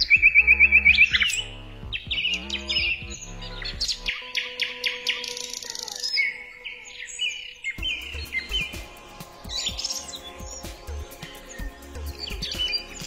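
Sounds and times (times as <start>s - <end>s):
small birds chirping: 0.0s - 13.0s
soft background music: 0.0s - 13.0s.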